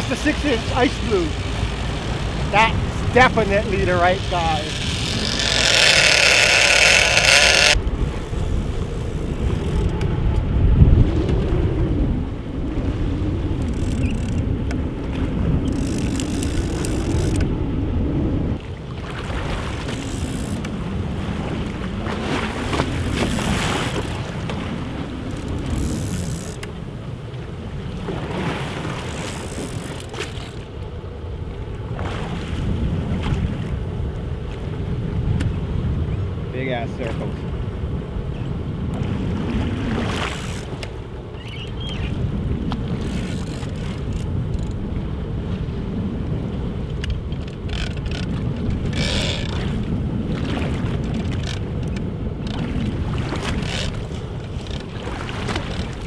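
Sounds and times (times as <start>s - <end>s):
boat engine running: 0.0s - 31.9s, 36.6s - 45.4s, 46.1s - 56.0s
water rushing past hull: 0.0s - 56.0s
wind buffeting microphone: 0.0s - 56.0s.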